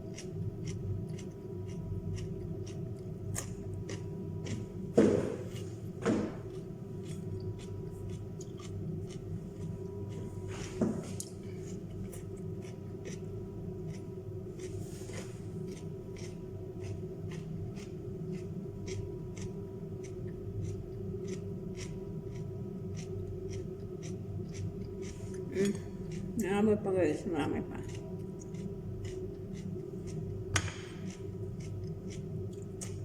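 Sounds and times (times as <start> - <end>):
crunchy chewing of vegetables: 0.0 - 26.4, 27.5 - 33.0
appliance hum: 0.0 - 33.0.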